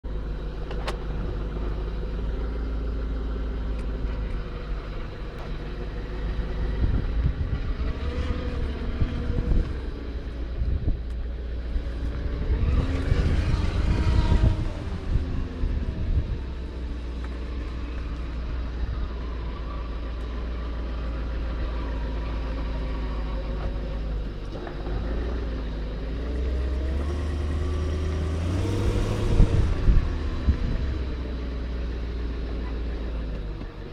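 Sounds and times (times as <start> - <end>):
car engine hum: 0.0 - 33.9
engine whine: 0.0 - 33.9.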